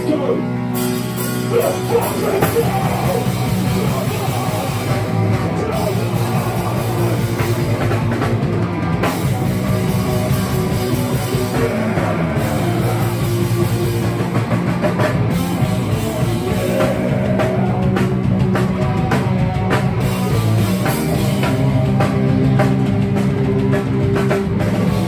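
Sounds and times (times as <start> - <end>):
punk band playing loud: 0.0 - 25.0.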